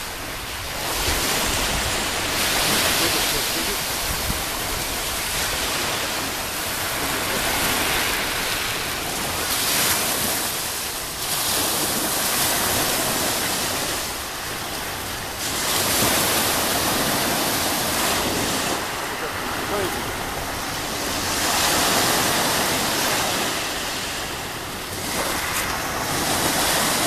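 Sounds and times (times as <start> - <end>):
sea waves washing onto shore: 0.0 - 27.0.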